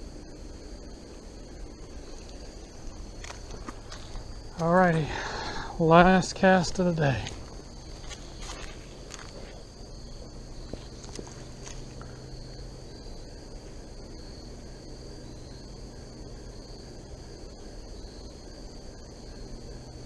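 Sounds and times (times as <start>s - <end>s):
insects trilling: 0.0s - 20.0s
low steady rumble: 0.0s - 20.0s.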